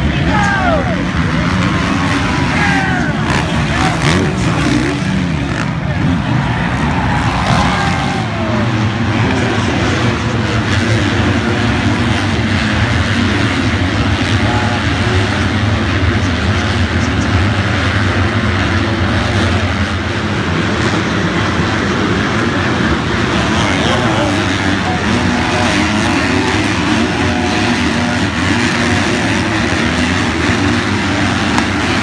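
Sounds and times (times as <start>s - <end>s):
motocross bike engines: 0.0s - 32.0s.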